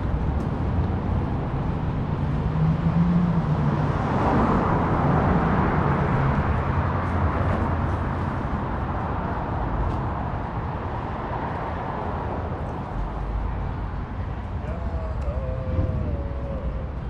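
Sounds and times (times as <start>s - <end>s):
passing traffic: 0.0s - 17.0s
vehicle engine humming: 0.0s - 17.0s.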